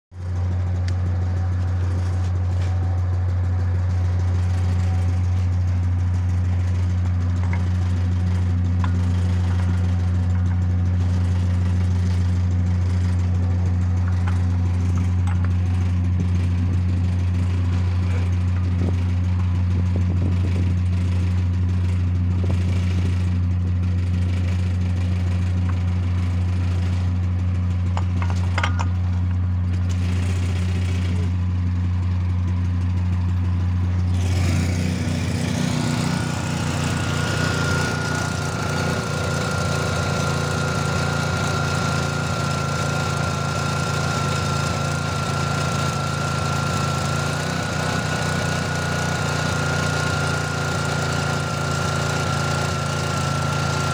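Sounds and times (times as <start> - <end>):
hydraulic pump droning: 0.2 - 53.9.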